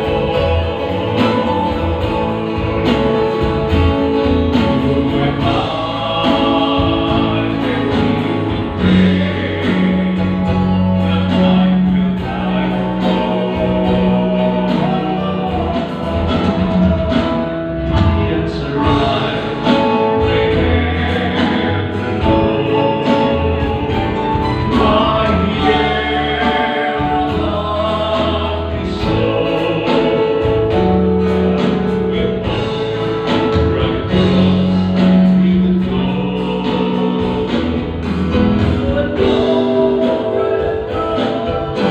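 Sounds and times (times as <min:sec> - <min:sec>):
instrumental accompaniment: 0:00.0 - 0:41.9
person singing: 0:00.0 - 0:41.9
steady bass line: 0:00.0 - 0:41.9.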